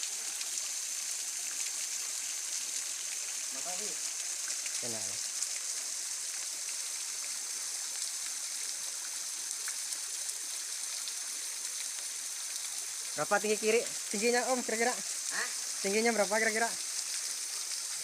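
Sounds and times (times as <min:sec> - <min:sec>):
waterfall pouring: 0:00.0 - 0:18.0.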